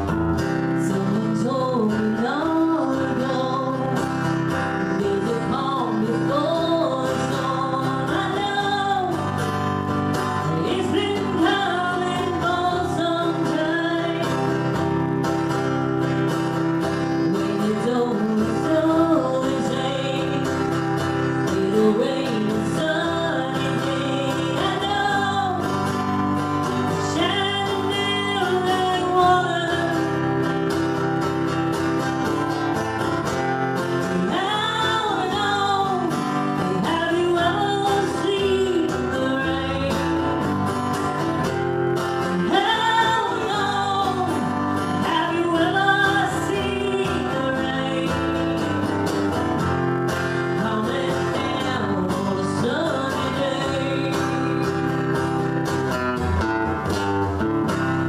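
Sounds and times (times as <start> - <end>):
person singing: 0.0 - 31.5, 33.8 - 41.6, 42.2 - 56.4
country song with guitar: 0.0 - 58.0.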